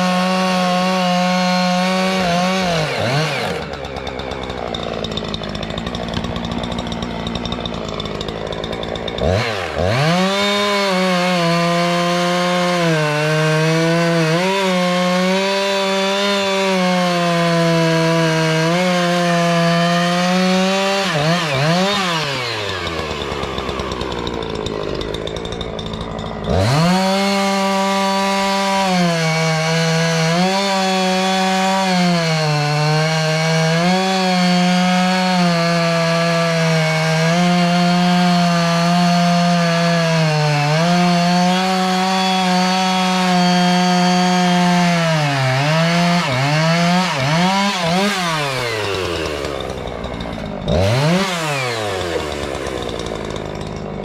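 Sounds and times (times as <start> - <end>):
chainsaw running at high revs: 0.0 - 54.0.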